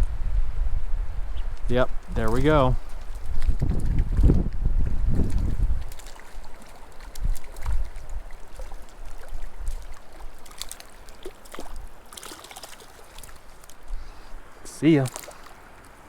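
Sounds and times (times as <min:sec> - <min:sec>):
creek flowing: 0:01.7 - 0:16.0.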